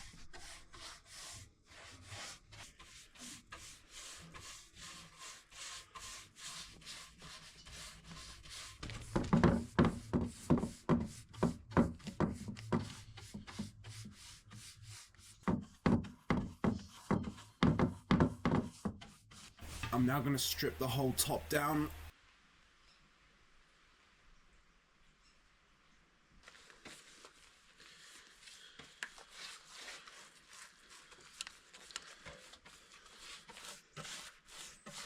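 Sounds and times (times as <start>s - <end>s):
rhythmic rubbing on wood: 0.0s - 22.1s, 28.0s - 35.0s.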